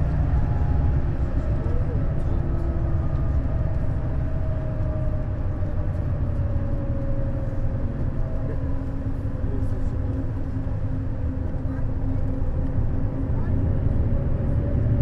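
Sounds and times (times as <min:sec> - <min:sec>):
coach engine and road rumble: 0:00.0 - 0:15.0.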